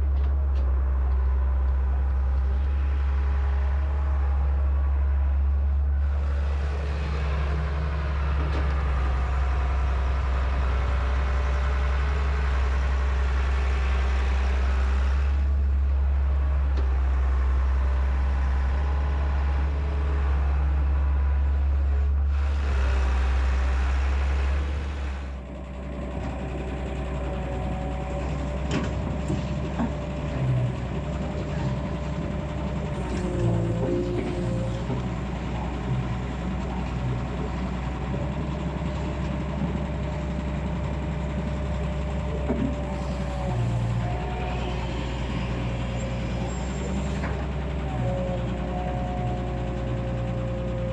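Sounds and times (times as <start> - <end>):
excavator diesel engine rumbling: 0.0 - 50.9.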